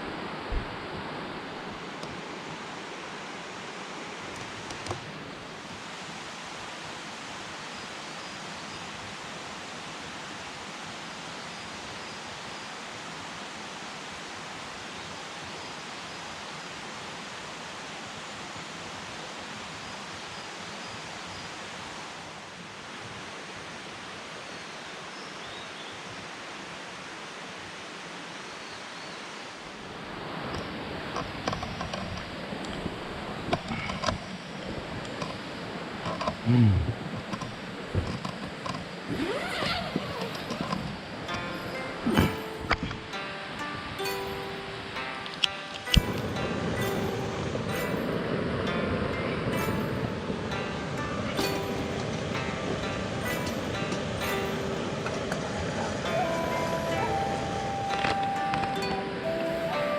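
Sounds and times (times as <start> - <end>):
stream flowing over rocks: 0.0 - 25.4, 29.2 - 59.9.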